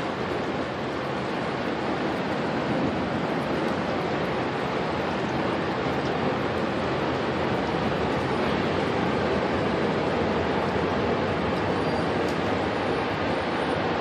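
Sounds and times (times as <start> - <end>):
storm wind roaring: 0.0 - 14.0.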